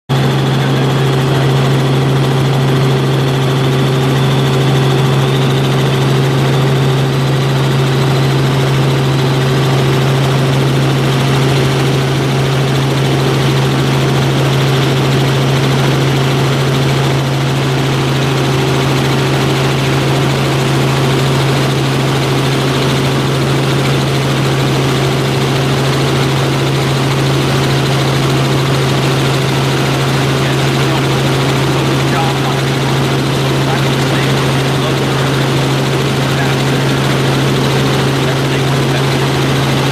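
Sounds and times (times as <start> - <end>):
helicopter engine and rotors drone: 0.1 - 39.9.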